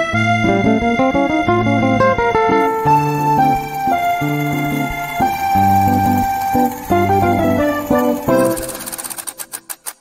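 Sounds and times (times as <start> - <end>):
steady bass line: 0.0 - 8.6
electronic keyboard melody: 0.0 - 9.6.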